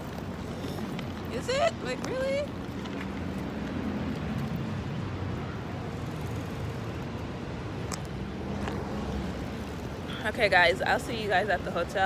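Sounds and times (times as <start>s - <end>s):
city ambience rumble: 0.0s - 12.0s.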